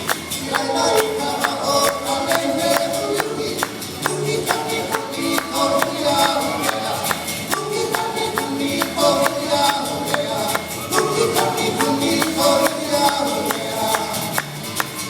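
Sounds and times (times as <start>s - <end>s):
man singing: 0.4s - 14.5s.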